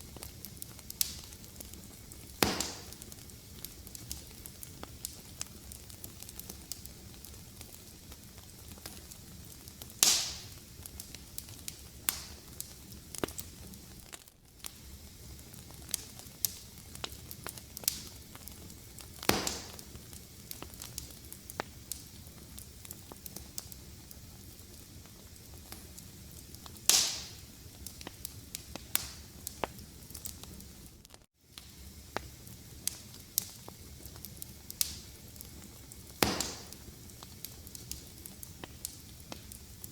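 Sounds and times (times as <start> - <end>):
loud fire pops: 0.0 - 30.9, 31.5 - 39.9
wood fire crackling: 0.0 - 39.9.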